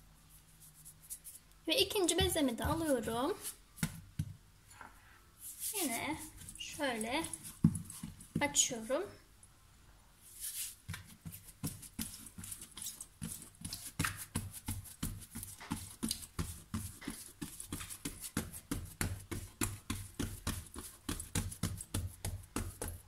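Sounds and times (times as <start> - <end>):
fingertips patting bread dough: 0.6 - 4.4, 5.5 - 8.6, 10.4 - 23.0.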